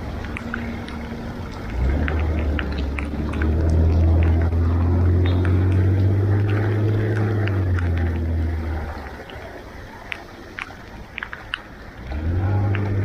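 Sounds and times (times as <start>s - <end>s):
light ticks: 0.0s - 13.0s
vehicle engine droning: 0.0s - 13.0s.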